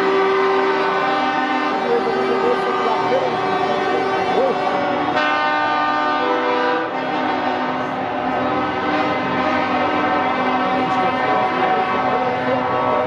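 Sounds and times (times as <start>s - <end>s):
truck air horns blowing: 0.0s - 13.0s.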